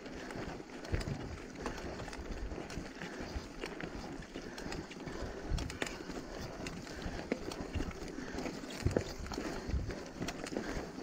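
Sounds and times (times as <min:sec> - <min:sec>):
bike clicks and rattles: 0:00.0 - 0:11.0.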